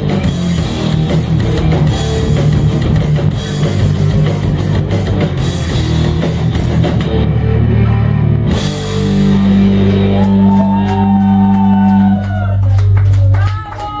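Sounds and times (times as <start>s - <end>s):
punk rock band playing: 0.0s - 13.2s.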